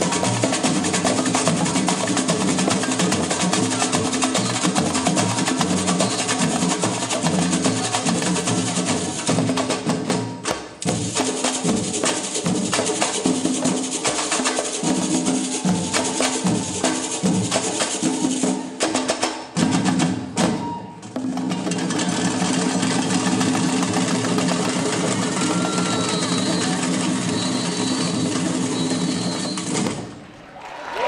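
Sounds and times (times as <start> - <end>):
hand drums beating: 0.0 - 30.1.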